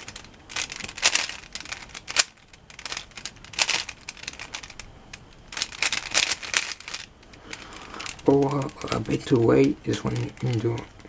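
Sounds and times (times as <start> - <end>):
puzzle cube clicking and scraping: 0.0 - 11.0.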